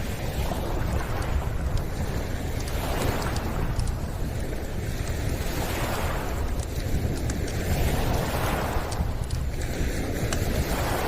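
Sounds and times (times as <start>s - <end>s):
steady low rumble: 0.0s - 11.0s
waves washing against shore: 0.0s - 11.0s.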